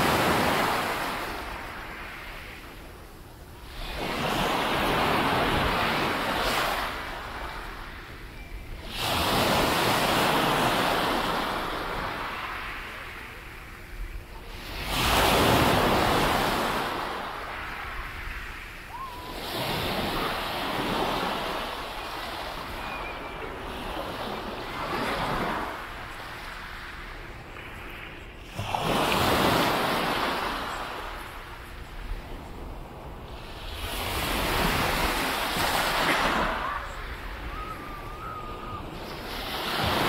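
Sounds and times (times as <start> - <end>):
sea waves breaking on shore: 0.0 - 40.0.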